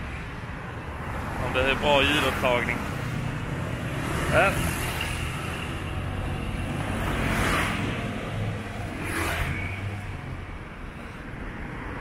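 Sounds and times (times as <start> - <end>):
street traffic engine hum: 0.0 - 12.0.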